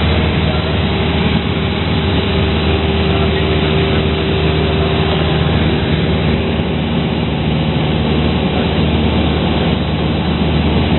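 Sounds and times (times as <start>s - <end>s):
propeller plane engine droning: 0.0s - 10.9s.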